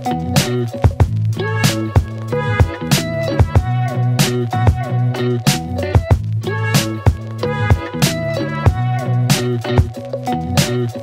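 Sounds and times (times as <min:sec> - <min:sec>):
background music with bass and drums: 0:00.0 - 0:11.0.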